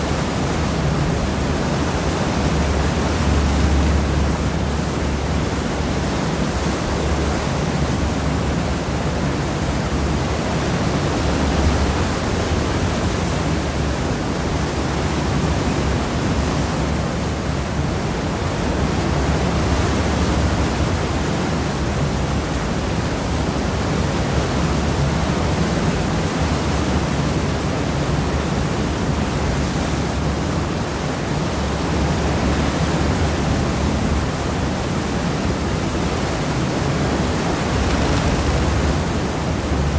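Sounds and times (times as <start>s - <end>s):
water wash rushing: 0.0s - 39.9s.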